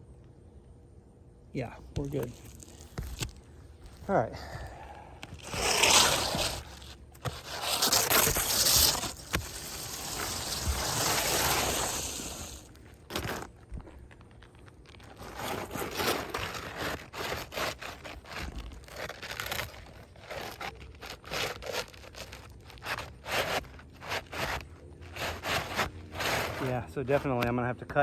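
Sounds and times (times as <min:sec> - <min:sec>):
roof shingles scraping and crunching: 0:02.0 - 0:04.1, 0:04.9 - 0:28.0.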